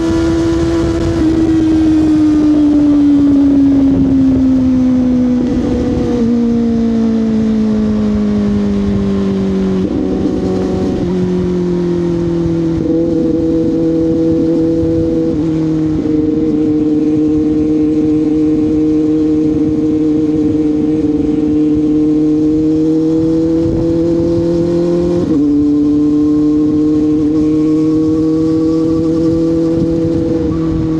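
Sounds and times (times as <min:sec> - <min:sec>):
motorcycle engine while riding: 0:00.0 - 0:30.9.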